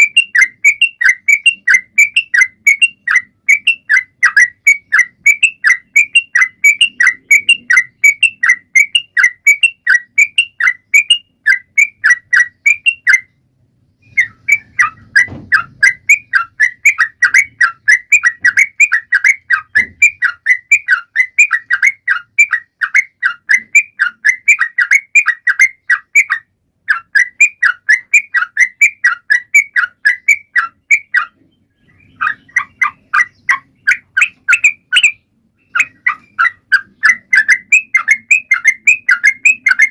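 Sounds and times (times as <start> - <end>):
bulbul calling in rapid notes: 0.0 - 13.4, 14.0 - 39.9.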